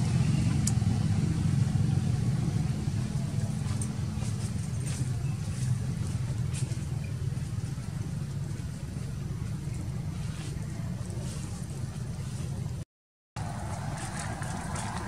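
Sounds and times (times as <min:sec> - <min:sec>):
low rumble with hum: 0:00.0 - 0:12.8, 0:13.4 - 0:15.0.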